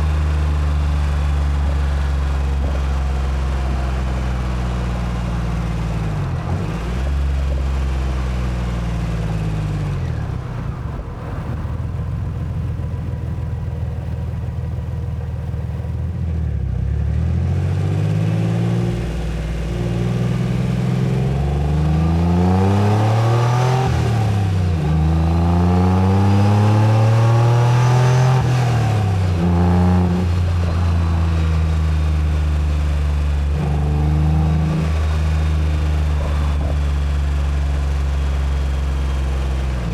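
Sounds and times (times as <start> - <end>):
car engine revving through gears: 0.0 - 11.7, 16.8 - 39.9.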